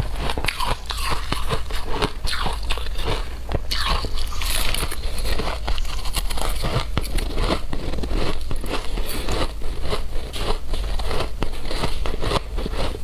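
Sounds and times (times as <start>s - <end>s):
shaved ice being chewed: 0.0s - 13.0s.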